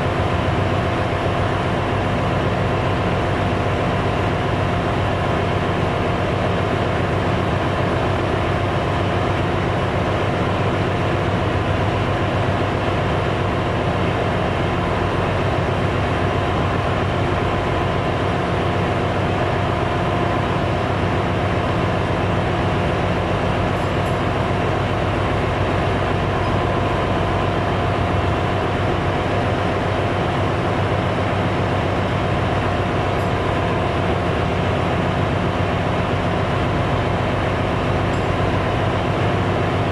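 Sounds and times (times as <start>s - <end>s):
engine room machinery hum: 0.0s - 39.9s.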